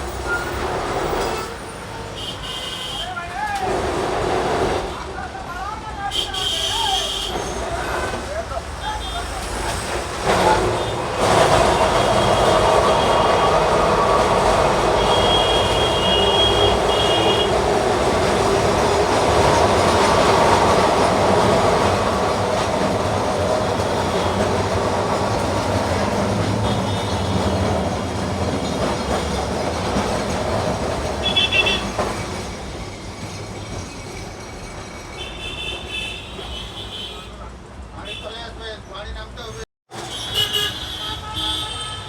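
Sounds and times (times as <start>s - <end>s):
tram wheels rumbling on rails: 0.0s - 2.2s, 3.0s - 5.9s, 6.8s - 37.8s.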